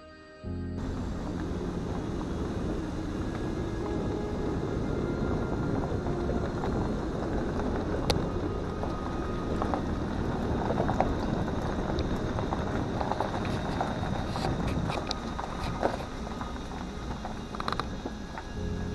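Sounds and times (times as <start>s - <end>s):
road and engine noise: 0.8s - 18.9s.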